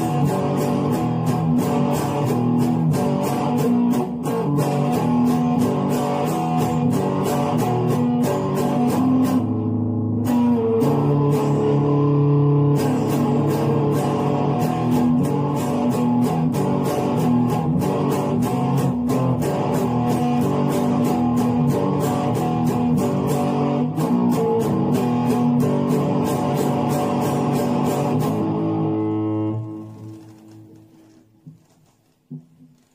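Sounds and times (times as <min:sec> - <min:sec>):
electric guitar picked notes: 0:00.0 - 0:31.0.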